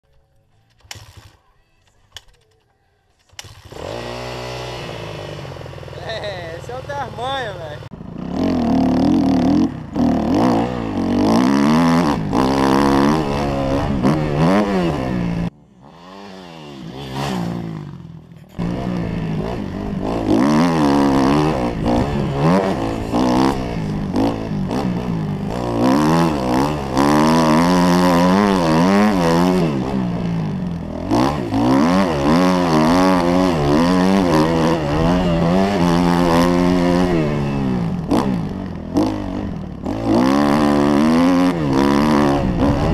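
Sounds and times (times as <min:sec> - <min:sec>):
motocross engine revving: 0:03.4 - 0:42.9.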